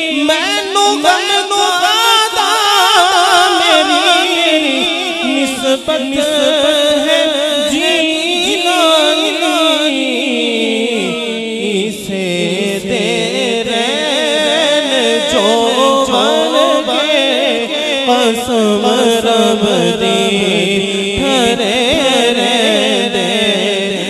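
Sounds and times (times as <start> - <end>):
man singing through microphone: 0.0 - 24.0.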